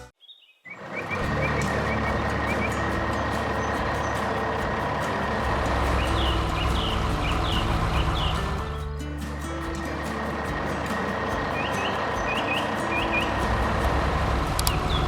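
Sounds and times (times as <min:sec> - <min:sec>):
heavy truck engine running: 0:00.8 - 0:15.0.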